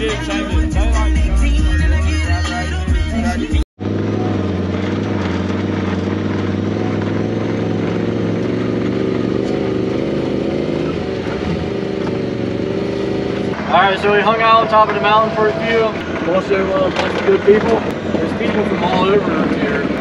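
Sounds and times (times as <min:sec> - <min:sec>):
engine running steadily: 0:03.8 - 0:20.0.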